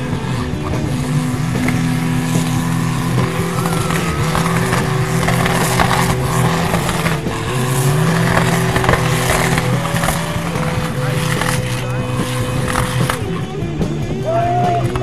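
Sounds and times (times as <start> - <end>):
tractor engine running flat out: 0.0 - 15.0.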